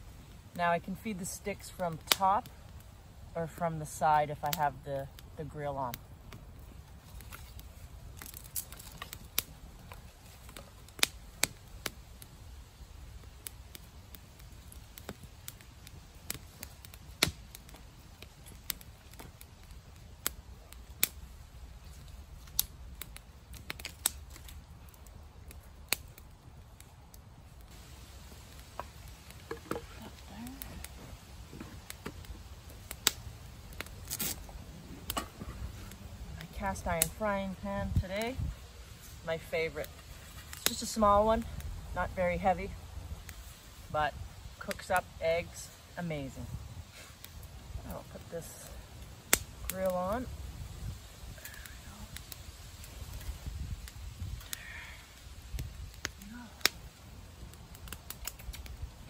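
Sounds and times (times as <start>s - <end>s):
small fire crackling and popping: 0.0s - 59.0s.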